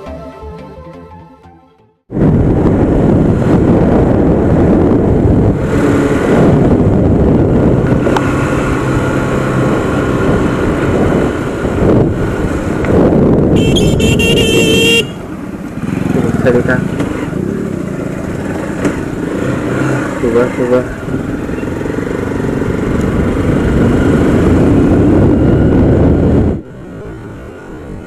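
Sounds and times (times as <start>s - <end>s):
wind buffeting microphone: 2.1s - 20.2s, 20.8s - 28.0s
motorcycle engine: 2.1s - 28.0s.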